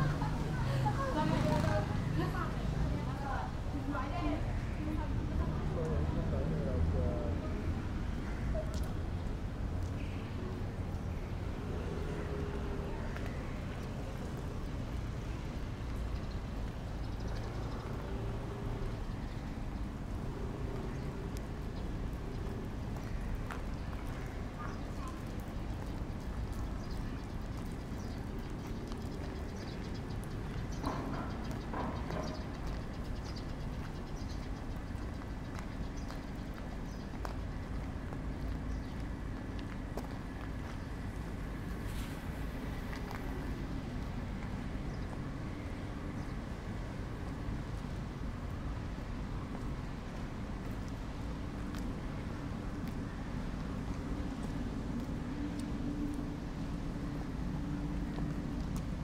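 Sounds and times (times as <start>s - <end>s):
low city rumble: 0.0s - 59.0s.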